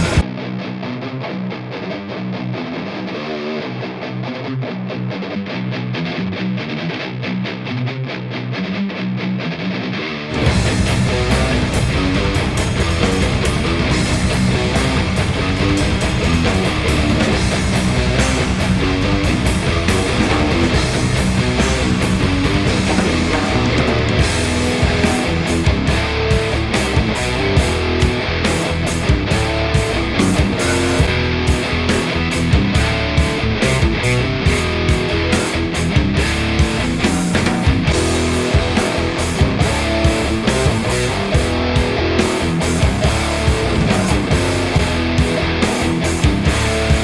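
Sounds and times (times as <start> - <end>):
distorted electric guitar riff: 0.0 - 47.0.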